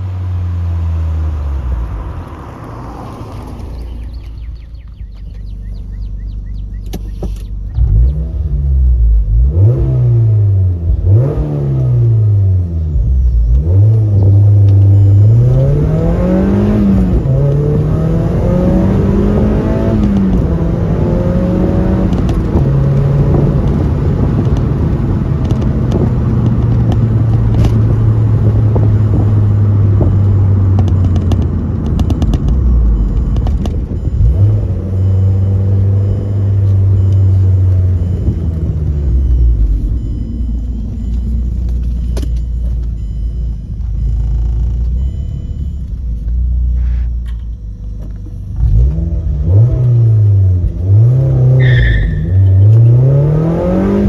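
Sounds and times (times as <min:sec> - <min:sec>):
car engine revving and accelerating: 0:07.1 - 0:46.0, 0:48.0 - 0:54.0.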